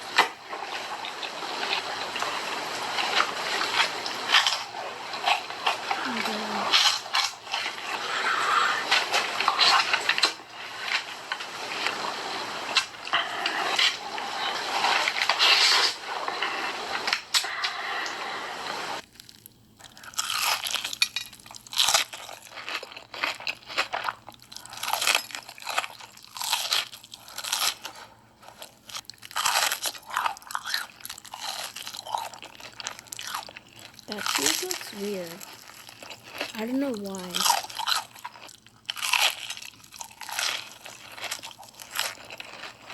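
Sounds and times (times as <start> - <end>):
crunching and chewing snacks: 0.0 - 17.7, 19.0 - 42.9.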